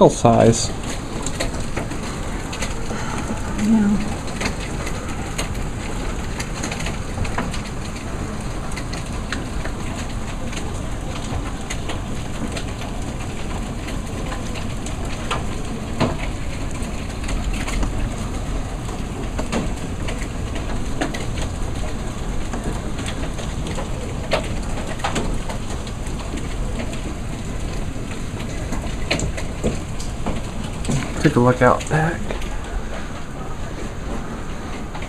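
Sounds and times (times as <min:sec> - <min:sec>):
hailstones striking: 0:00.0 - 0:35.0
heavy rain rushing: 0:00.0 - 0:35.0.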